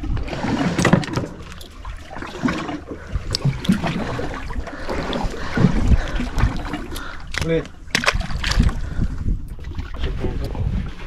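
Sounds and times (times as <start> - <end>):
water sloshing against hull: 0.0 - 11.0.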